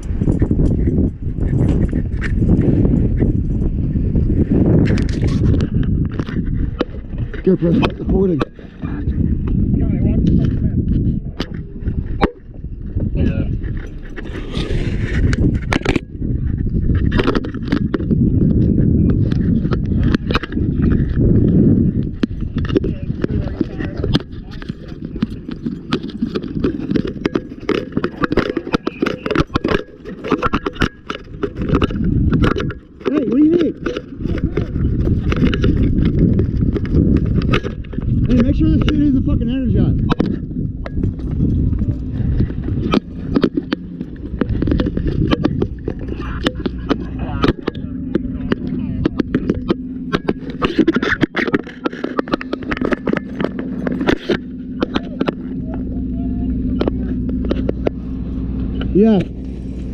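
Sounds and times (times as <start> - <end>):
fire engine engine drone: 0.0 - 59.9
knocking and clatter of gear: 0.0 - 59.9
steady low rumble: 0.0 - 59.9.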